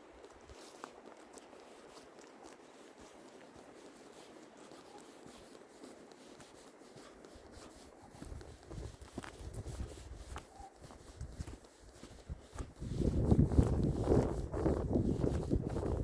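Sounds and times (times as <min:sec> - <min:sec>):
footsteps on snow: 0:00.0 - 0:16.0.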